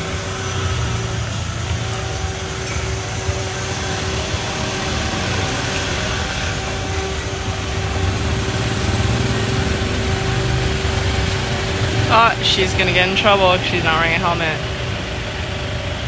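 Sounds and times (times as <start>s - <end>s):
scooters and cars going by: 0.0s - 16.0s.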